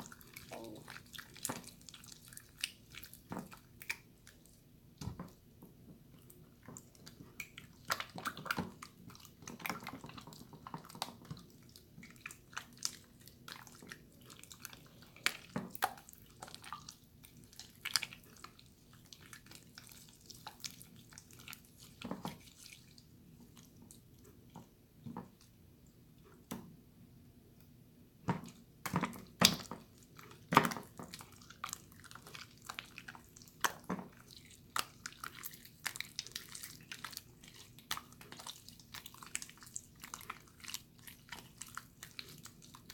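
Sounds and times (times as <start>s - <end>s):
slime squelching and popping: 0.0s - 5.4s, 6.2s - 25.5s, 28.3s - 42.9s.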